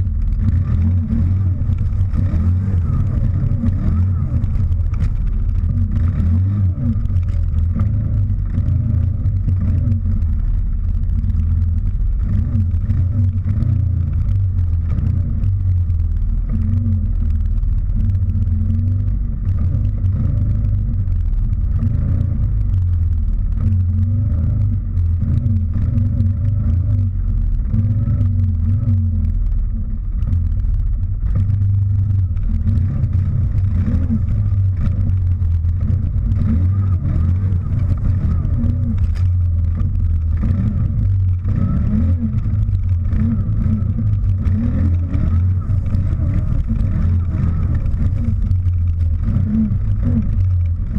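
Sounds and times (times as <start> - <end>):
atv engine revving: 0.0 - 50.9.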